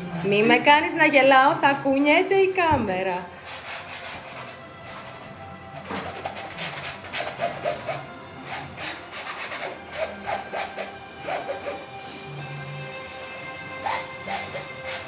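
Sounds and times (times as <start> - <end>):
painting tool scraping canvas: 0.0 - 1.3, 3.3 - 12.2, 12.9 - 15.0.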